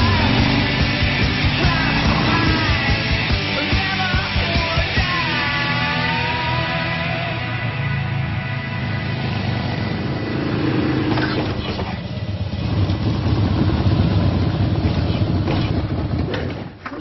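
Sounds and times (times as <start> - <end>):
motorcycle engine running: 0.0 - 5.5, 7.1 - 16.5.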